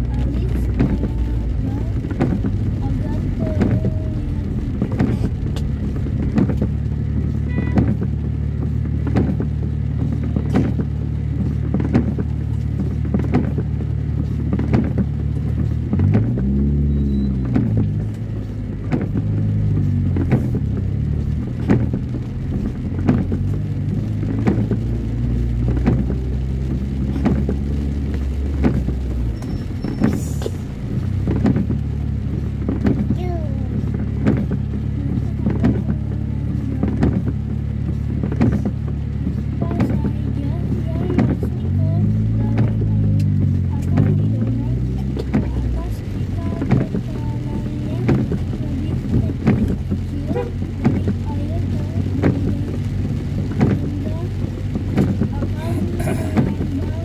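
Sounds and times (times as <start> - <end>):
car engine running: 0.0 - 57.0
windscreen wipers sweeping glass: 0.0 - 57.0.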